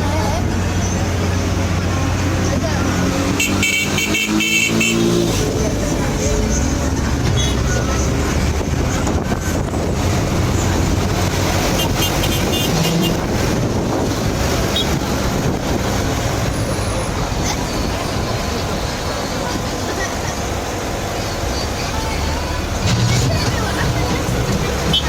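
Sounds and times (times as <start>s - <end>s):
passing cars rumbling: 0.0s - 25.0s.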